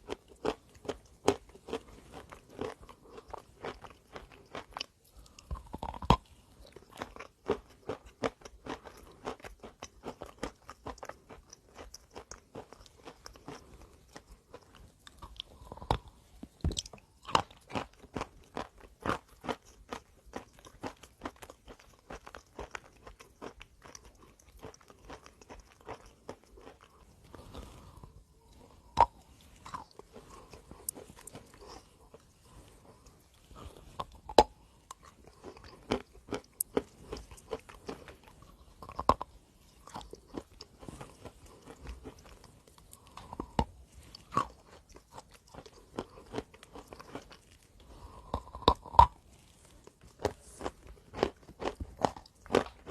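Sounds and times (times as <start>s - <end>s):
person chewing chalk crunches: 0.0s - 52.9s.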